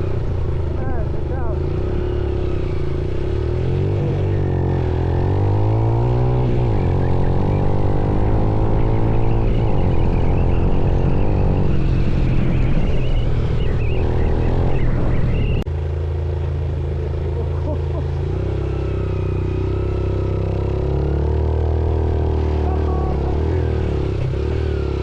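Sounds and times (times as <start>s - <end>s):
motorcycle engine shifting gears: 0.0s - 25.0s.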